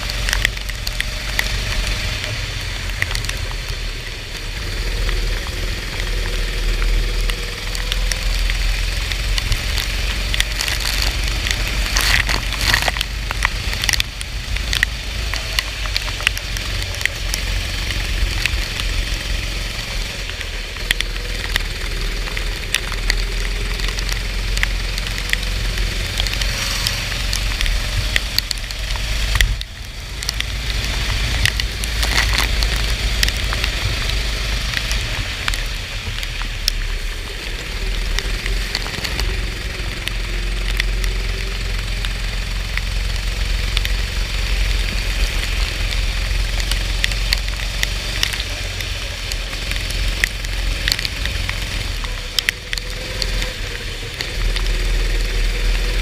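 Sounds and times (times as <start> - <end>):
go-kart engine racing: 0.0 - 56.0
wind and rain on microphone: 0.0 - 56.0.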